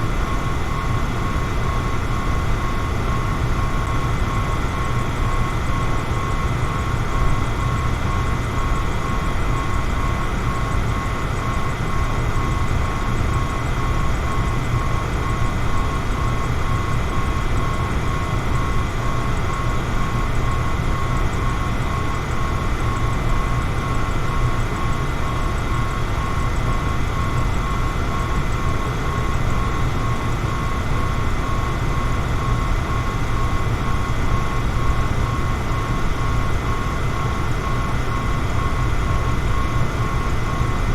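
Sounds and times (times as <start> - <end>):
faint steady whine: 0.0 - 40.9.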